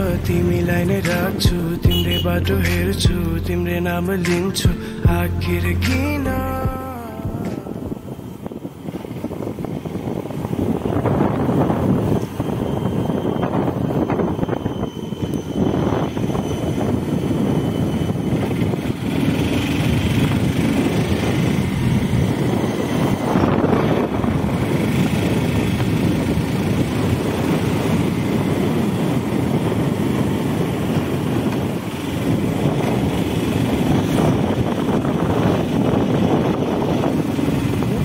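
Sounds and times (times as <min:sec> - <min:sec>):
motorcycle engine rumbling: 0:00.0 - 0:38.0
road and wind noise: 0:00.0 - 0:38.0.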